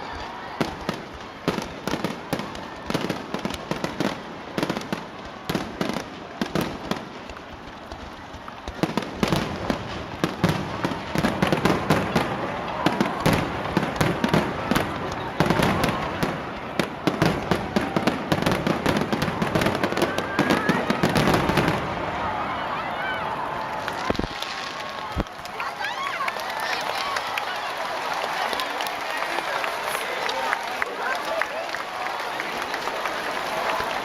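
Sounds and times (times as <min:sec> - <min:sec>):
fireworks crackling and popping: 0:00.0 - 0:22.5, 0:23.4 - 0:34.0.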